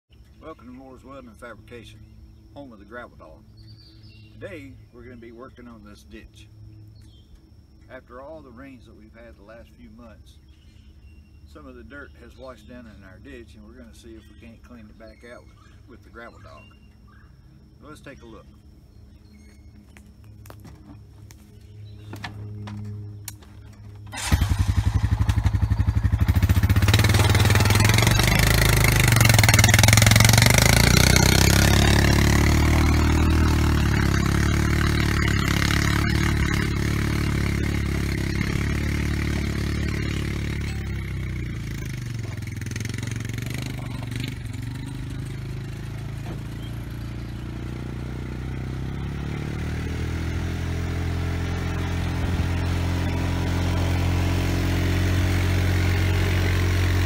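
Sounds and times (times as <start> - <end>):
off-road vehicle engine under load: 0.0 - 57.0.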